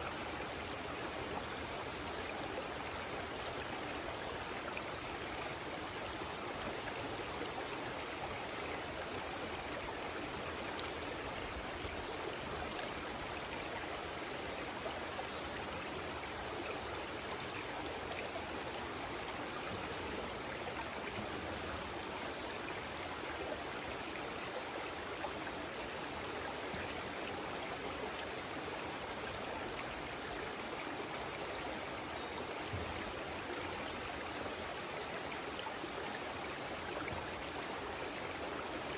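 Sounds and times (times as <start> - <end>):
stream of water running: 0.0 - 38.9.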